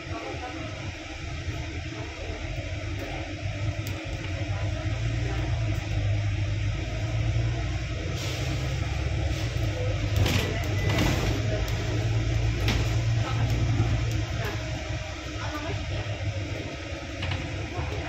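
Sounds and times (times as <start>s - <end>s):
bus engine rumble: 0.0s - 18.0s
road noise: 0.0s - 18.0s.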